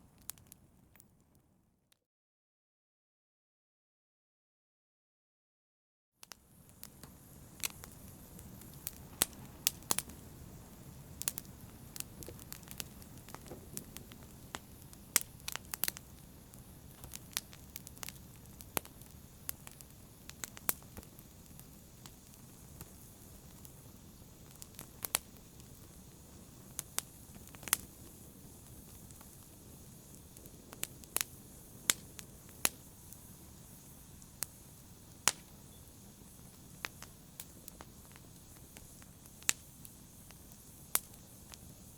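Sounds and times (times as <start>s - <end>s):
wood fire pops and snaps: 0.0s - 1.2s, 6.2s - 41.9s
flames hissing and rumbling: 6.3s - 41.9s.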